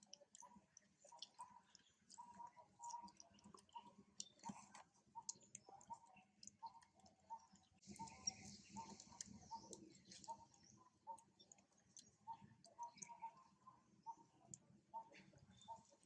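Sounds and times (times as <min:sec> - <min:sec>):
monkey chewing wet smacks: 0:00.0 - 0:13.4.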